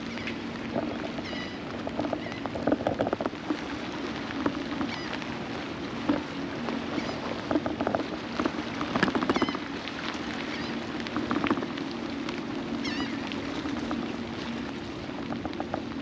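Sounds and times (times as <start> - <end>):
rain pattering: 0.0 - 16.0
steady low hum: 0.0 - 16.0.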